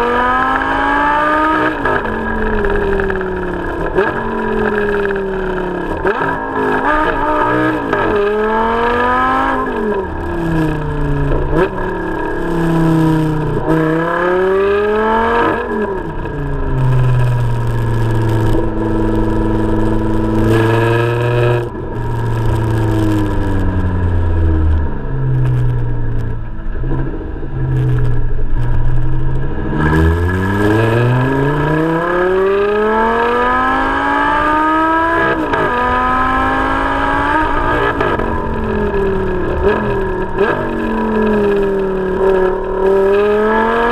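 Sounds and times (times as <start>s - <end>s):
car exhaust under hard acceleration: 0.0s - 43.9s.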